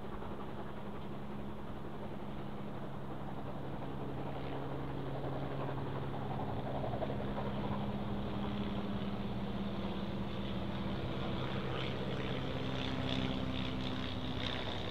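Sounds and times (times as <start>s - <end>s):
biplane engine drone: 0.0s - 14.9s.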